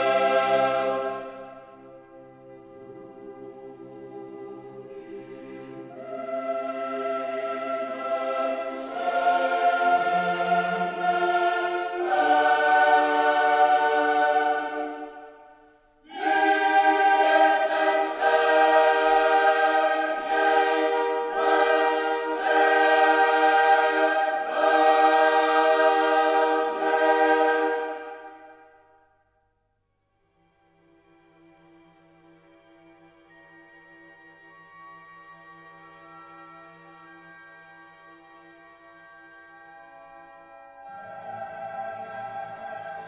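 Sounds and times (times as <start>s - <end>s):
choir singing sustained chords: 0.0s - 29.4s, 31.5s - 43.0s.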